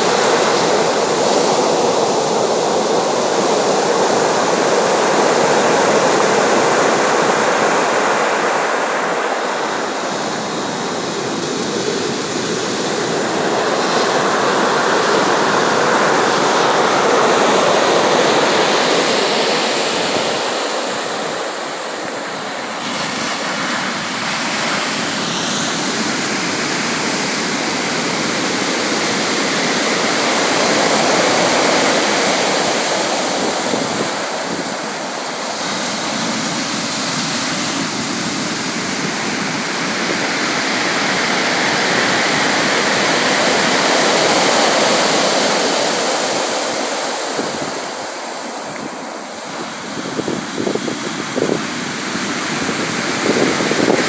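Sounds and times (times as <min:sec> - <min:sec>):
waves washing onto shore: 0:00.0 - 0:54.0.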